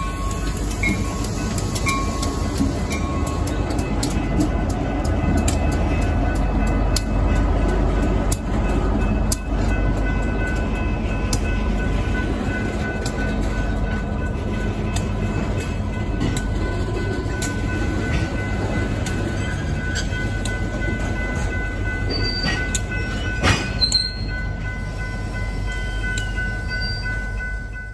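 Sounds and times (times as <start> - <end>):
diesel locomotive rumble: 0.0 - 27.9
train cars rolling over rails: 0.0 - 27.9.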